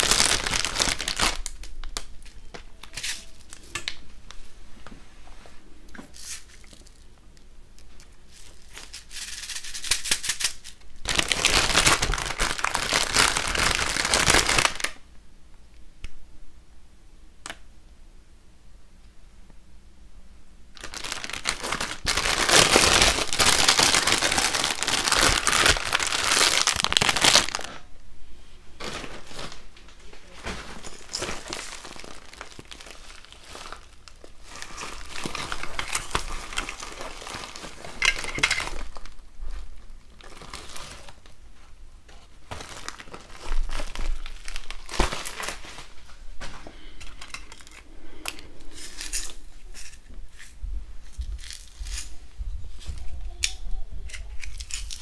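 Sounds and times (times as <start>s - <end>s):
plastic packaging crinkling: 0.0s - 4.0s, 6.1s - 7.1s, 7.8s - 15.0s, 20.7s - 27.9s, 28.8s - 53.1s, 54.1s - 55.0s.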